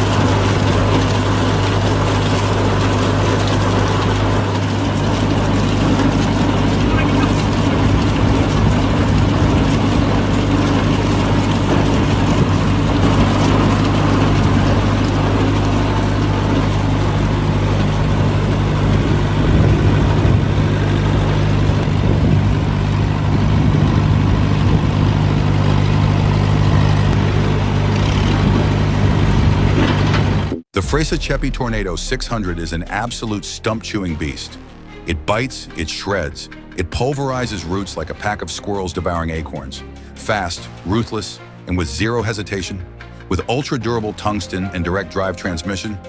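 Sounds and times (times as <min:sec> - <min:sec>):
log-debarking machine running: 0:00.0 - 0:46.0.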